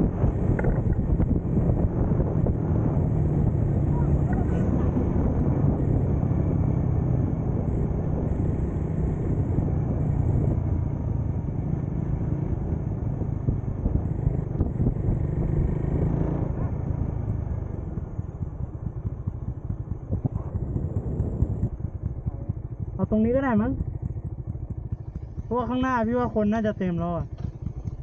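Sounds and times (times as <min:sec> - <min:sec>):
motorcycle engine running: 0:00.0 - 0:28.0
road and wind rush: 0:00.0 - 0:28.0.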